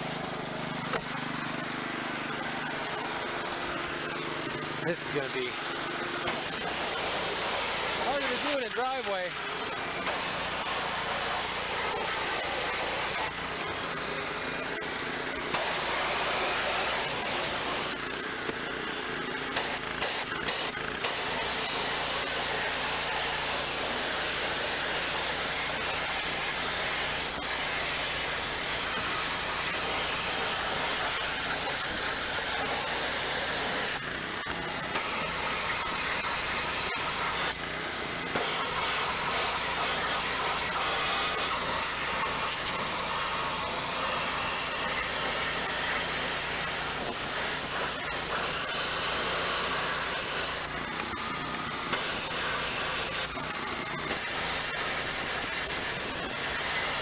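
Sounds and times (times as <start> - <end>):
pressure washer spraying: 0.0 - 57.0.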